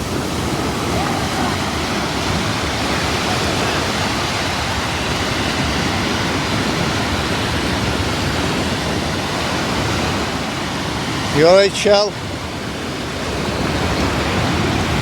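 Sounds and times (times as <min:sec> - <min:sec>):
sea surf washing onto beach: 0:00.0 - 0:15.0.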